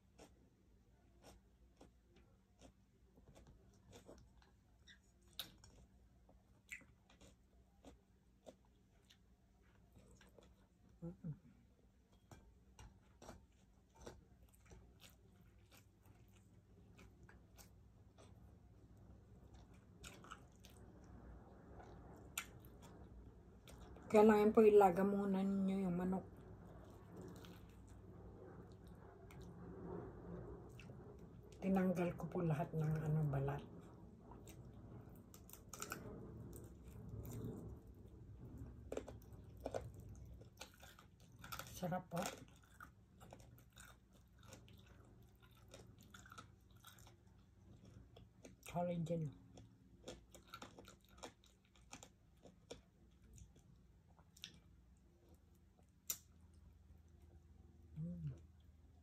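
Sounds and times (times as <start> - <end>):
chewing and biting chicken: 0.0 - 11.1, 12.0 - 24.1, 26.4 - 31.6, 33.7 - 48.7, 49.4 - 57.2.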